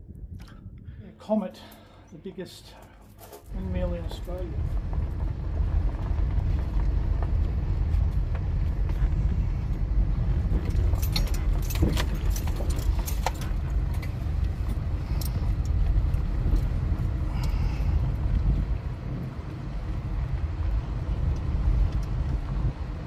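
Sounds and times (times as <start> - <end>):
wind buffeting microphone: 0.0 - 1.4, 3.5 - 23.0.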